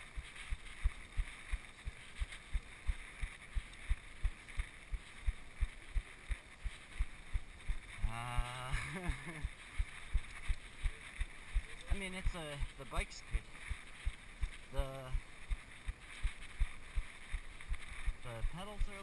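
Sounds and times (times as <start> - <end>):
bike rolling over grass: 0.0 - 19.0.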